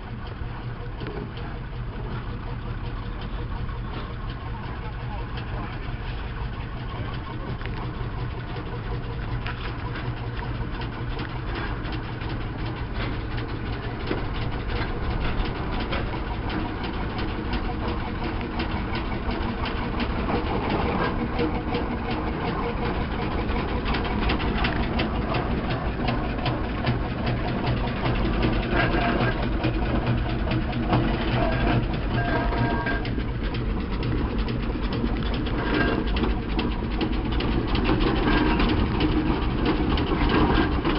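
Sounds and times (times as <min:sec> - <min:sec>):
steam roller rumbling: 0:00.0 - 0:40.9.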